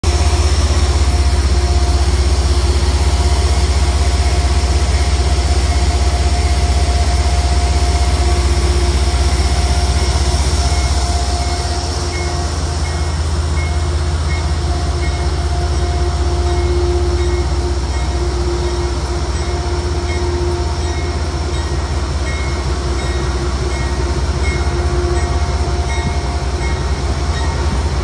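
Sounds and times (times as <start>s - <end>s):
diesel locomotive engine rumble: 0.0s - 28.0s
machinery hum and whine: 0.1s - 28.0s.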